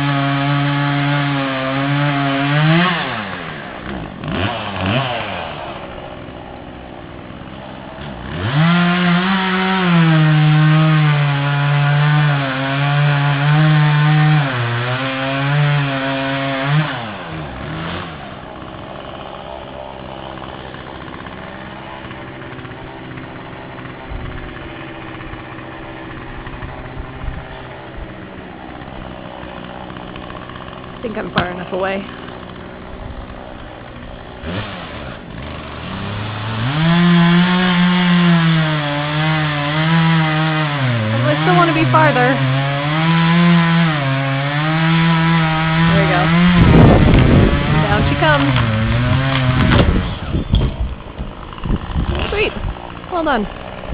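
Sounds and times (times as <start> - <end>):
chainsaw cutting wood: 0.0 - 53.9
chainsaw idling: 0.0 - 53.9.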